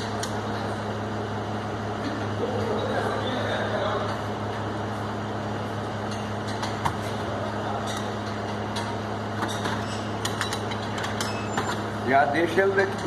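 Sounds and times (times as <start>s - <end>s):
low workshop hum: 0.0s - 13.0s.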